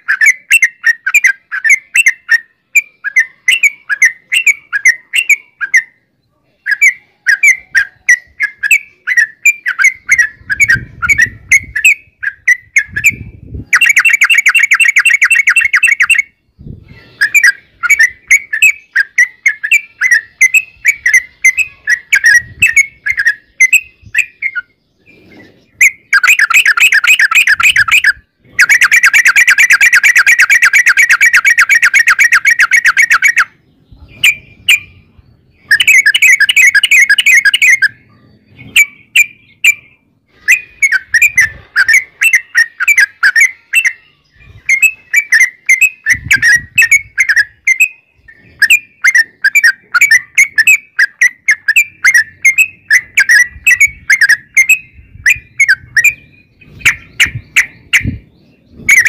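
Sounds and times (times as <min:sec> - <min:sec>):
bird singing chirpy notes: 0:00.0 - 0:59.0.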